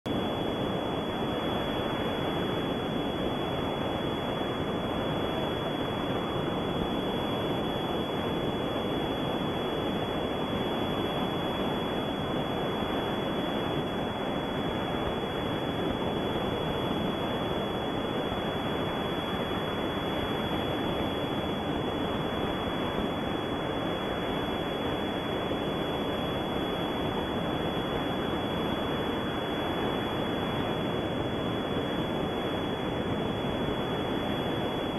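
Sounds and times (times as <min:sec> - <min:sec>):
thin high steady tone: 0:00.1 - 0:34.9.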